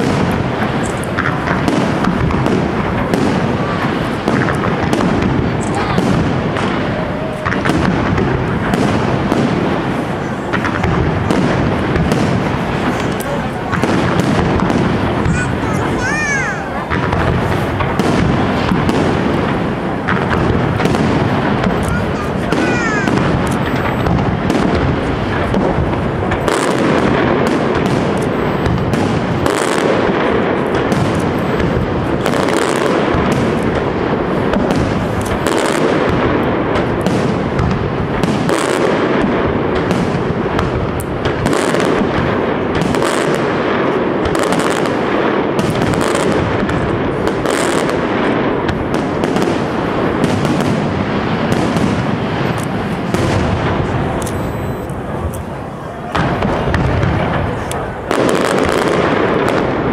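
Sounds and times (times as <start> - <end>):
fireworks crackling: 0.0 - 59.9.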